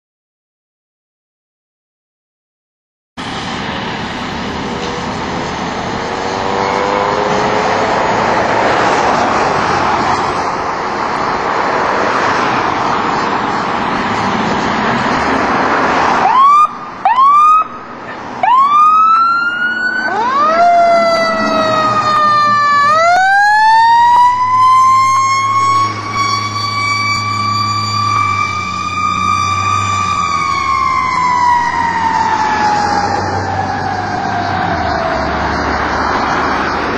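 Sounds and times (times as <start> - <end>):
fire engine siren wailing: 3.2 - 12.8, 13.6 - 36.9
noisy engine rumble: 3.2 - 36.9.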